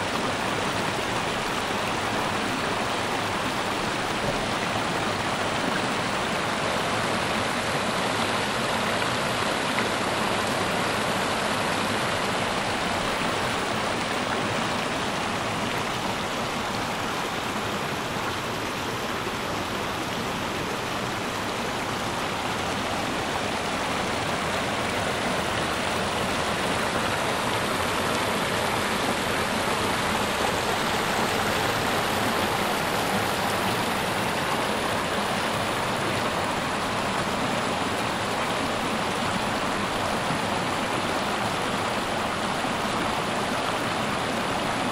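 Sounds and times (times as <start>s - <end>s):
water rushing over stones: 0.0s - 44.9s.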